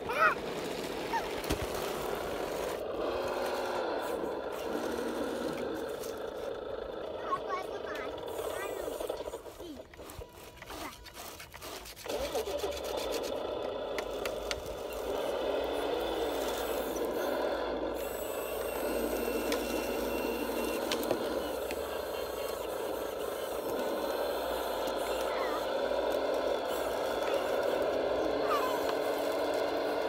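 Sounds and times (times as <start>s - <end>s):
blade pushing sand: 0.0s - 30.0s
toy bulldozer motors whirring: 0.0s - 30.0s.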